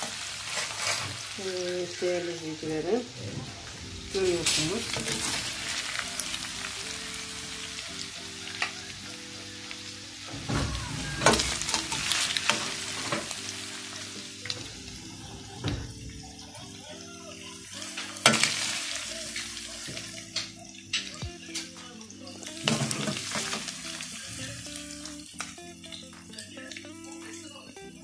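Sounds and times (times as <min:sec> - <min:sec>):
meat sizzling in fat: 0:00.0 - 0:28.0.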